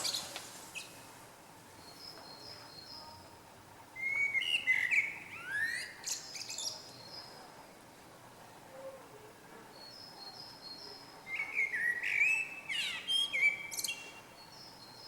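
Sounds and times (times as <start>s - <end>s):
songbird singing: 0.0s - 7.6s, 9.7s - 15.0s.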